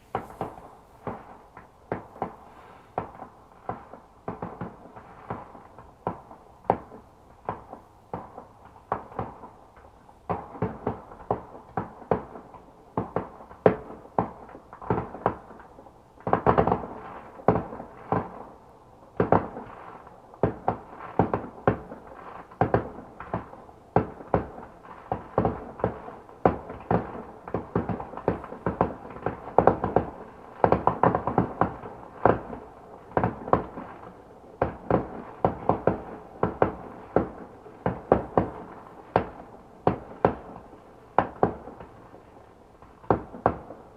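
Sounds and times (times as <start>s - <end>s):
fireworks bangs and pops: 0.0s - 43.9s.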